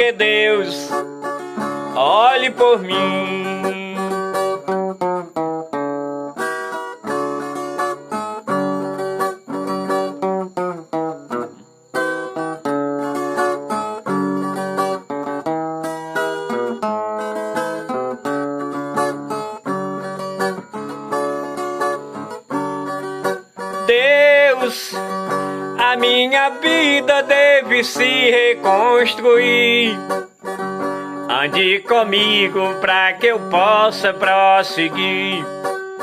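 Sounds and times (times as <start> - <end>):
steel-strung guitar melody: 0.0 - 36.0.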